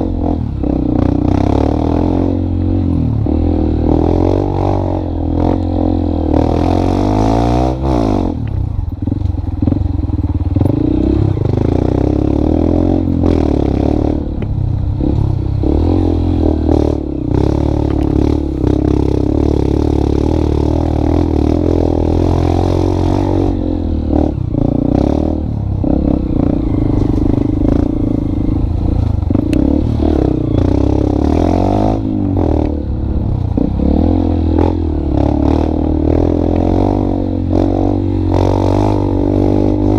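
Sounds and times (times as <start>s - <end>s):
motorcycle engine running: 7.7s - 39.9s.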